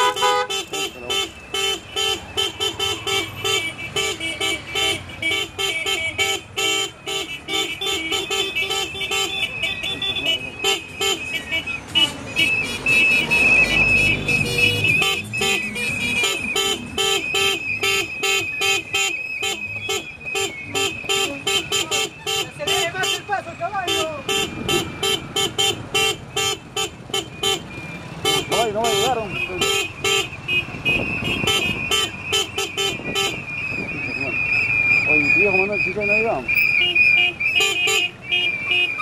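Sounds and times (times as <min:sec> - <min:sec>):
long steady horn tone: 0:00.0 - 0:34.2, 0:36.8 - 0:39.0
engines rumbling: 0:00.0 - 0:39.0
vehicle horns honking: 0:00.0 - 0:39.0.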